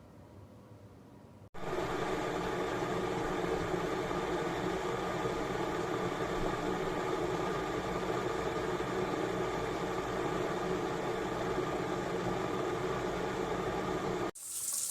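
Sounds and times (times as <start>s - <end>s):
electric kettle heating water: 1.6s - 14.9s.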